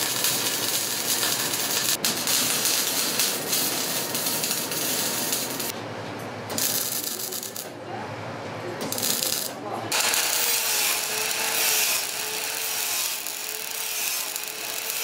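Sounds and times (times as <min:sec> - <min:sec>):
welding arc crackling hiss: 0:00.0 - 0:05.7, 0:06.5 - 0:07.7, 0:08.9 - 0:15.0.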